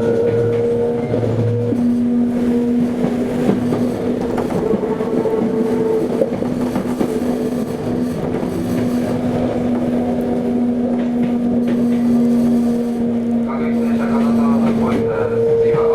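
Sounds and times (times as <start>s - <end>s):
traction equipment hum: 0.0s - 15.9s
train wheel and rail noise: 0.0s - 15.9s.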